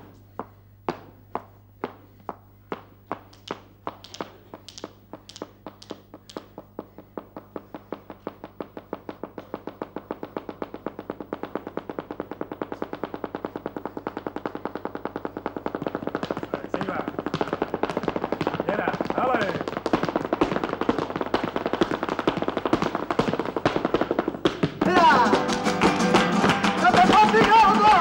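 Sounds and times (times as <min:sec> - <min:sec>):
heeled shoes striking wooden stage: 0:00.0 - 0:28.0.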